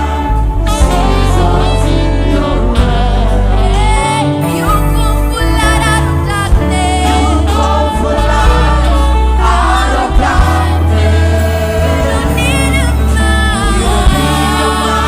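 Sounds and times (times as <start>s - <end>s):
deep bass line: 0.0s - 15.0s
gospel choir singing: 0.0s - 15.0s.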